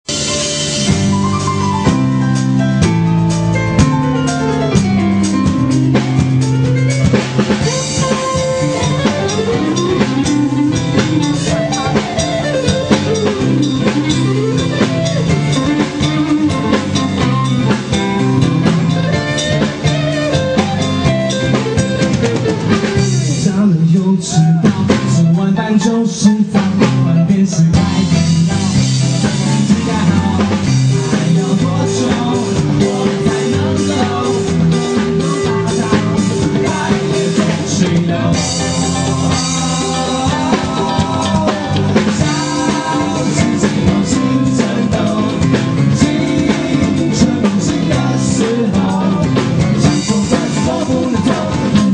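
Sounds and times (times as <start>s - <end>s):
rock band playing live: 0.0s - 51.9s.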